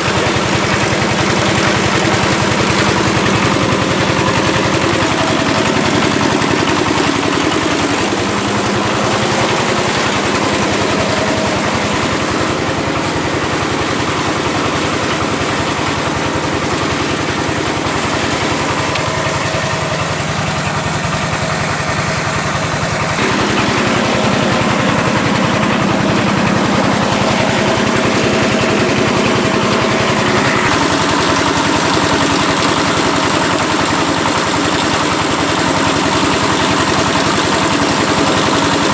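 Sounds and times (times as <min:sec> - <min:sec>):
machinery hissing: 0:00.0 - 0:34.6
tiller engine running: 0:00.0 - 0:38.9.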